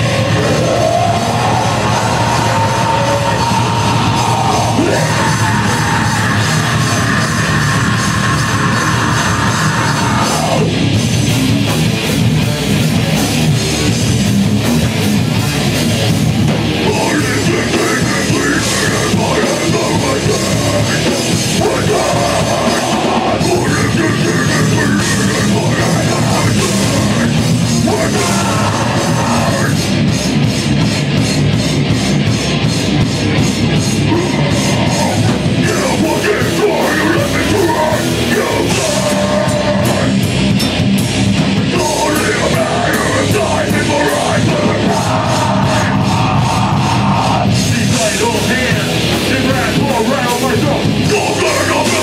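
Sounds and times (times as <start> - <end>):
heavy metal band playing live: 0.0 - 52.0.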